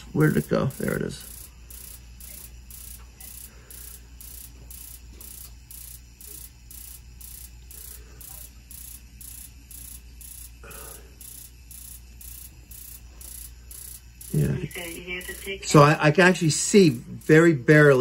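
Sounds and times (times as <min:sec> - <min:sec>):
spark igniter ticking: 0:00.0 - 0:18.0.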